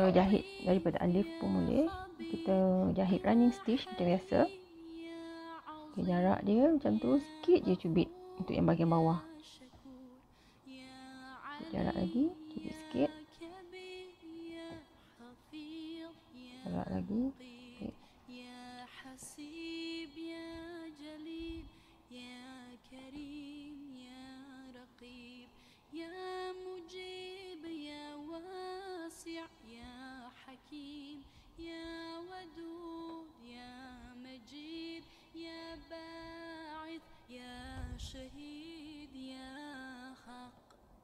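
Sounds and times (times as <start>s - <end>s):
woman singing slow melody: 0.0s - 41.0s.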